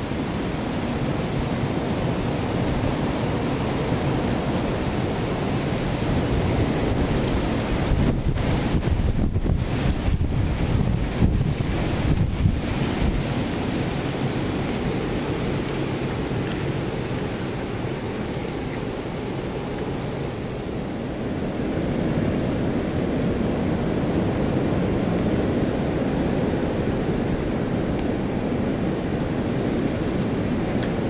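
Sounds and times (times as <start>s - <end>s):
hurricane wind rushing: 0.0s - 31.0s.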